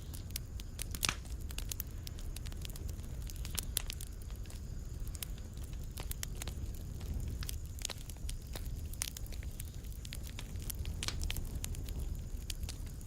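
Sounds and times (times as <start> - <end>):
fireplace fire crackling and popping: 0.0 - 13.0.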